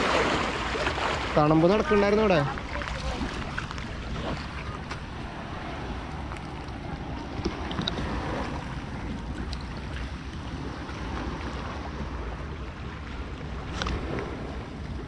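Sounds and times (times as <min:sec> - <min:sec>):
small waves lapping: 0:00.0 - 0:15.0.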